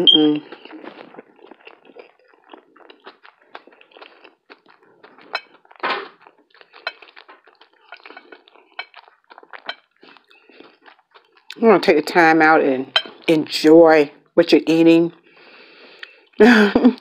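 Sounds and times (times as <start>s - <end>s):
person chewing: 0.0s - 11.9s, 12.9s - 13.4s, 15.1s - 16.4s.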